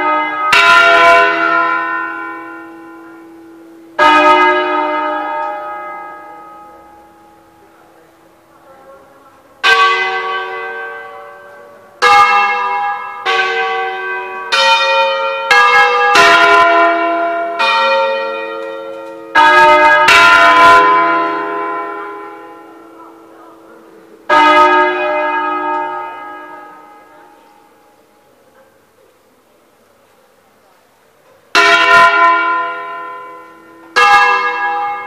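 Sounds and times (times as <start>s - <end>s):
church bells ringing: 0.0s - 30.4s, 31.5s - 35.0s.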